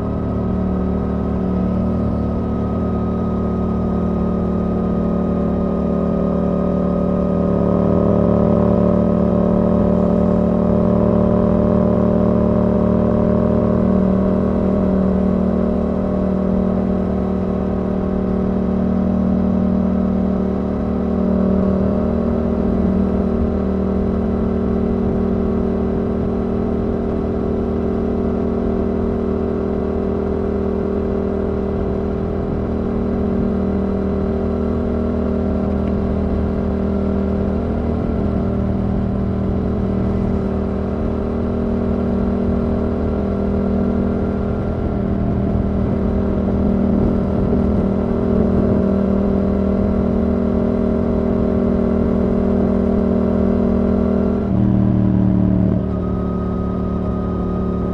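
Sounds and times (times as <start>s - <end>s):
motorcycle engine cruising: 0.0s - 57.9s.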